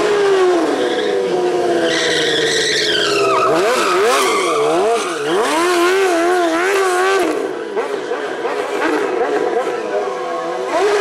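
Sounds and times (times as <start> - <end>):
motorcycle engine revving: 0.0 - 11.0
tyre squealing on asphalt: 0.0 - 11.0.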